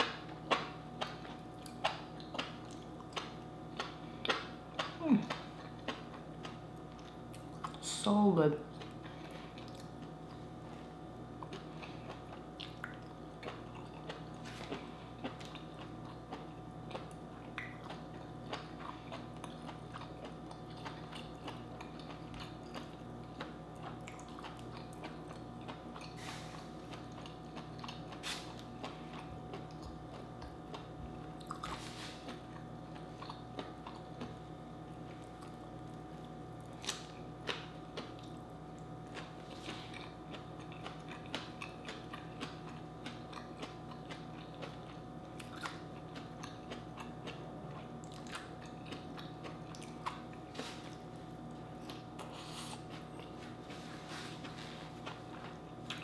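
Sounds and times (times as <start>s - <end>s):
person chewing vegetables: 0.0s - 7.8s, 8.7s - 56.0s.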